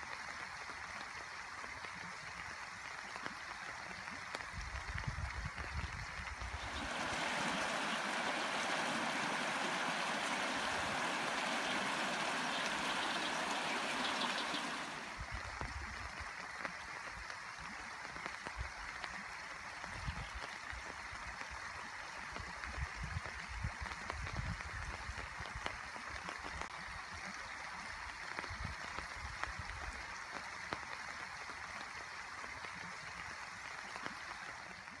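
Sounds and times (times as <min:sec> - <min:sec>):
running water rushing: 0:00.2 - 0:28.5.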